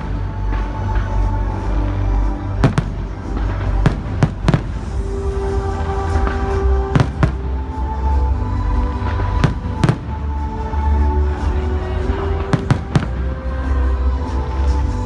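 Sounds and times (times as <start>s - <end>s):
fireworks bangs: 0.0s - 14.1s.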